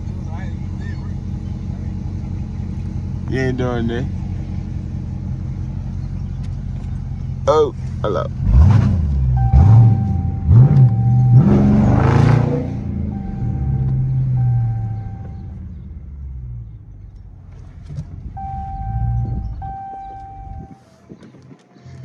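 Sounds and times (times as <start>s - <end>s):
car engine revving: 0.0s - 20.8s.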